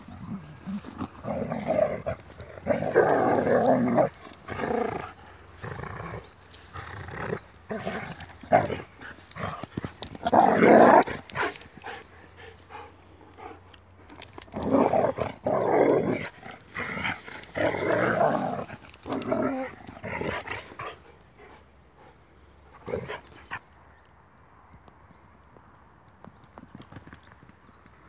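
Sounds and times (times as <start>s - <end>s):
dogs growling: 0.0s - 23.5s.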